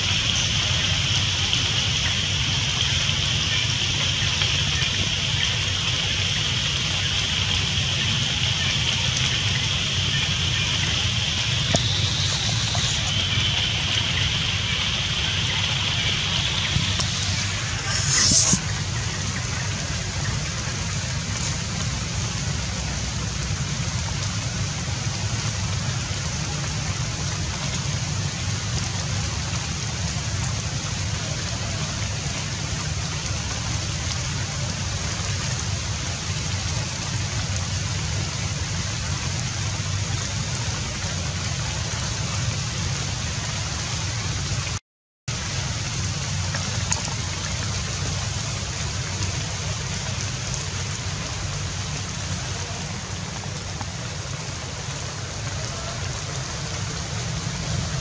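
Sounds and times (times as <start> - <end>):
hiss of water: 0.0 - 58.0.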